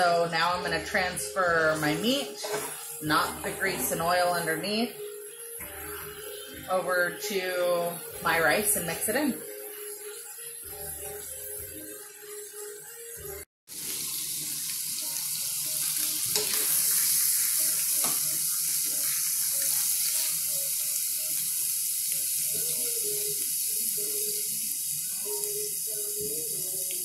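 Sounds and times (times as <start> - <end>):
meat sizzling in a skillet: 0.2 - 27.0.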